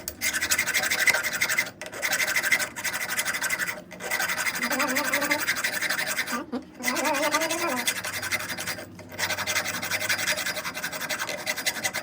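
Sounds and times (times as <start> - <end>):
harsh scraping strokes: 0.2 - 12.0.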